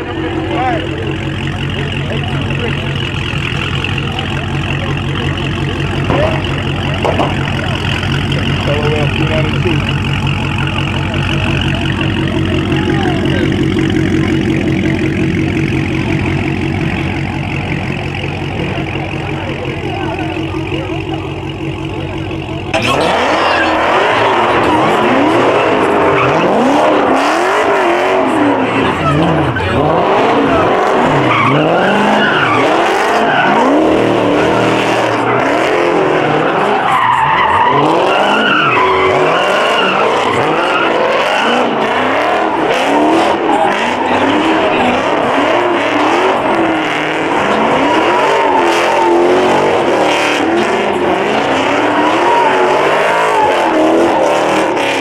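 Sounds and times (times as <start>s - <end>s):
muscle car engines revving: 0.0s - 55.0s
tire squeal and skidding: 0.0s - 55.0s.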